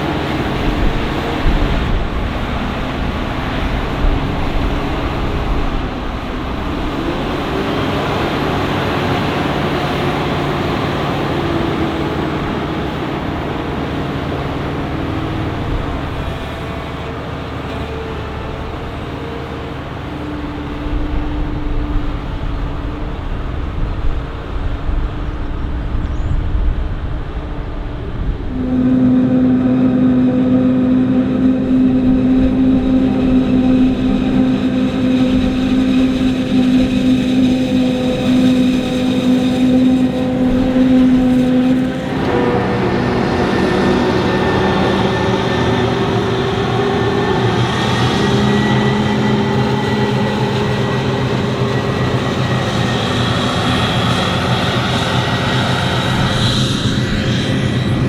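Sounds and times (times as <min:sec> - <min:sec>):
diesel farm machinery droning: 0:00.0 - 0:58.0.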